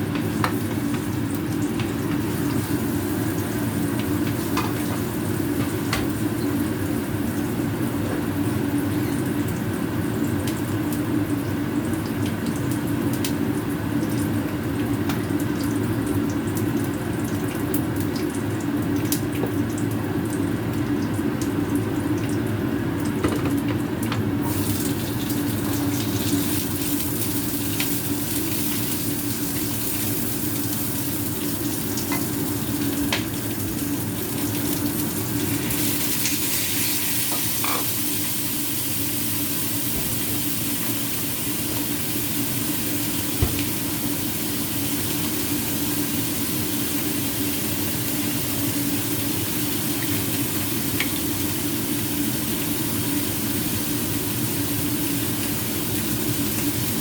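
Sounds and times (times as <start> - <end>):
food sizzling in a pan: 0.0 - 18.5, 24.4 - 57.0.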